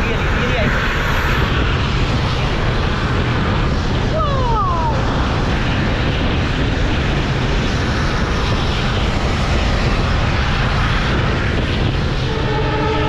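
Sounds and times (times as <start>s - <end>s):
train wheels rushing on rails: 0.0s - 13.0s
wind on microphone: 0.0s - 13.0s.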